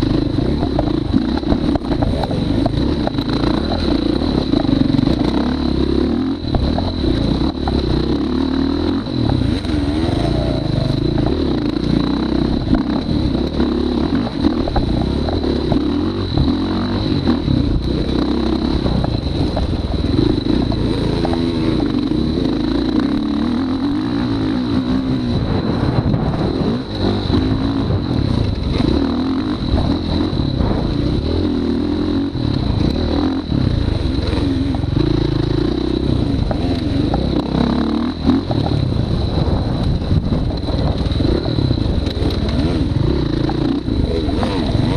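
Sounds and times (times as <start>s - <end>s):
motorcycle clatter: 0.0s - 44.9s
motorcycle engine revving: 0.0s - 44.9s.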